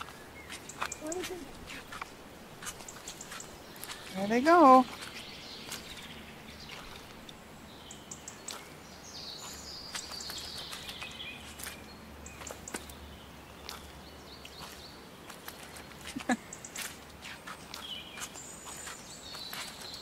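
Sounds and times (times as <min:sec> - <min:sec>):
light footsteps: 0:00.0 - 0:07.5, 0:09.4 - 0:13.0, 0:13.6 - 0:20.0
open-air ambience: 0:00.0 - 0:20.0.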